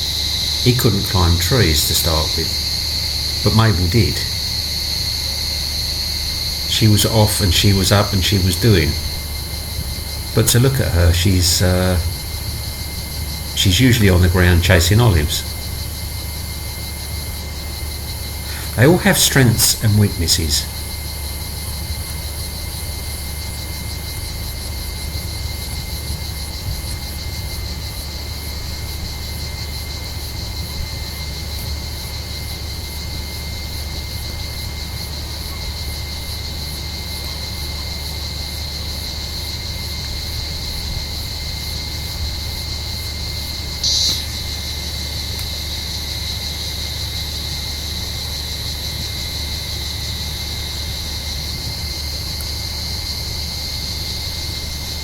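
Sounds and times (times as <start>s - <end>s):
cicadas droning: 0.0s - 55.0s
close cicada buzzing: 0.0s - 55.0s.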